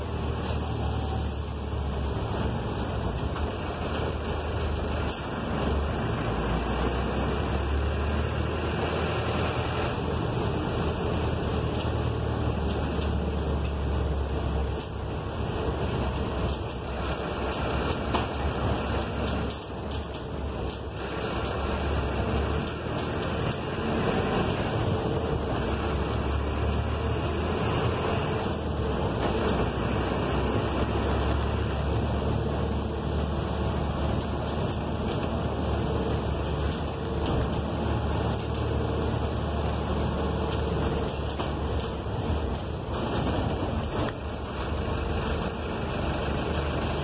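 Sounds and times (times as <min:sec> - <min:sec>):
bus engine drone: 0:00.0 - 0:47.0
road noise: 0:00.0 - 0:47.0.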